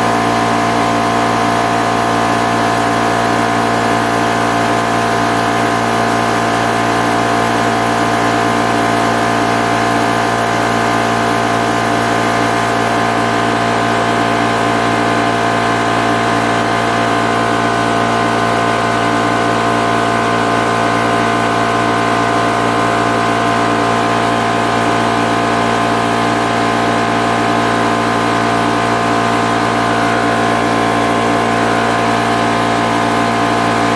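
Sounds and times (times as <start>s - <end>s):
air compressor humming: 0.0s - 33.9s.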